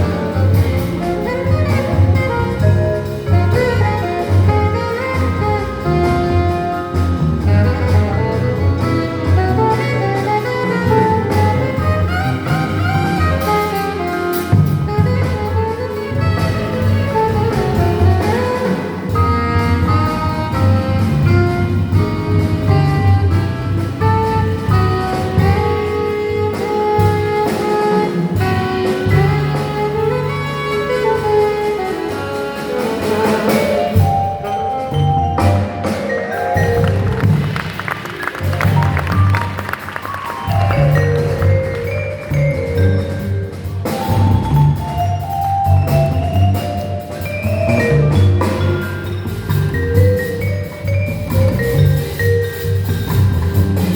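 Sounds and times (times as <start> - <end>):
double bass line: 0.0 - 53.9
jazz combo playing: 0.0 - 53.9.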